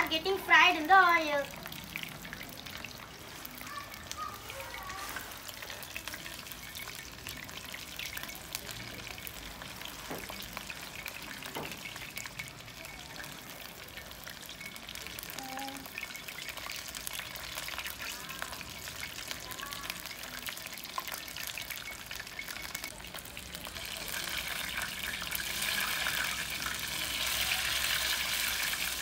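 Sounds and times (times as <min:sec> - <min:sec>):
chicken deep-frying in oil: 0:00.0 - 0:29.0.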